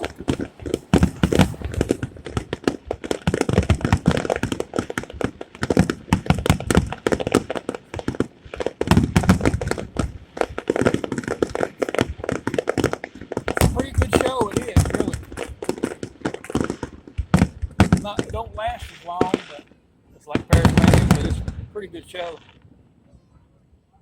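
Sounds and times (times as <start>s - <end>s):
fireworks shell bursts: 0.0s - 19.7s.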